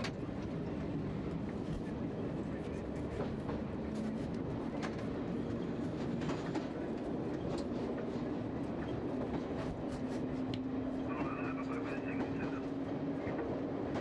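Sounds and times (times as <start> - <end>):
electric train rumble and motor hum: 0.0 - 14.0.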